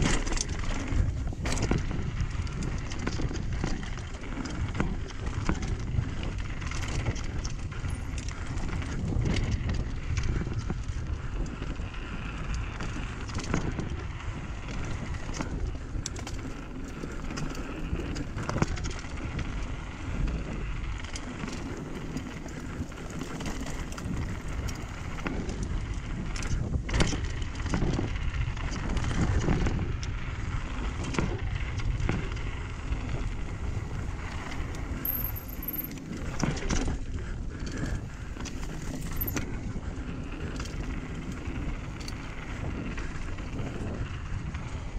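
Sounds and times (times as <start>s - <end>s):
bike clicks and rattles: 0.0s - 44.9s
wind rushing over microphone: 0.0s - 44.9s.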